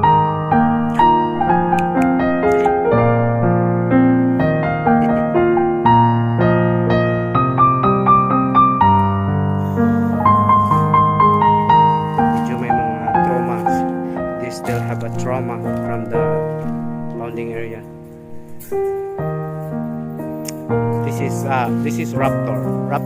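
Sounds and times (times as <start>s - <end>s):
gentle piano tune: 0.0s - 23.0s.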